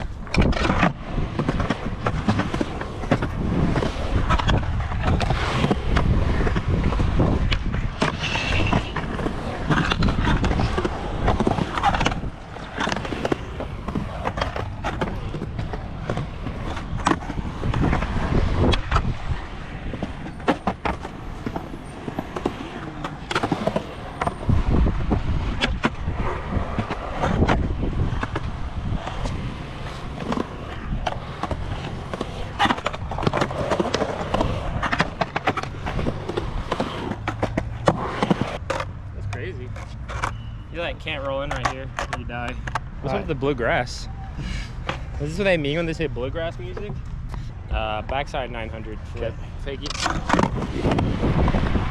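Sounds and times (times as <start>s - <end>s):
skateboard clacks and knocks: 0.0s - 40.6s, 49.8s - 51.9s
skateboard wheels rumbling: 0.0s - 51.9s.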